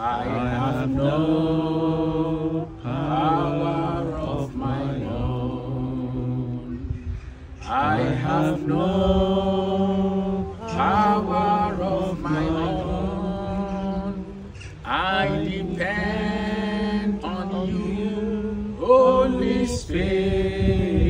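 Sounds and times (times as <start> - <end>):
man singing unaccompanied: 0.0 - 6.9, 7.7 - 21.0.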